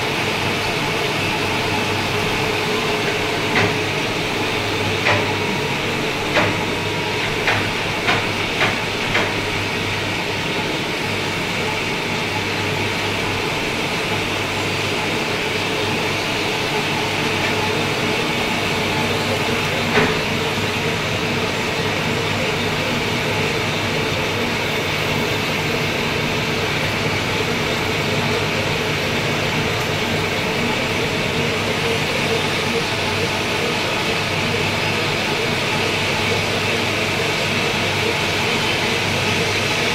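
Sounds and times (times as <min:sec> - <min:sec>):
lathe humming and whining: 0:00.0 - 0:39.9.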